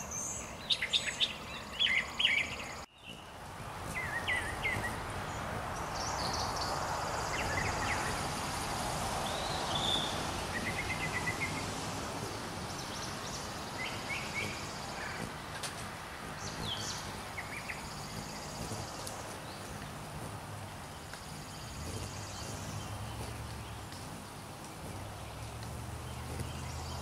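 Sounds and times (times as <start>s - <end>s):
birds chirping: 0.0s - 27.0s
outdoor hiss: 0.0s - 27.0s.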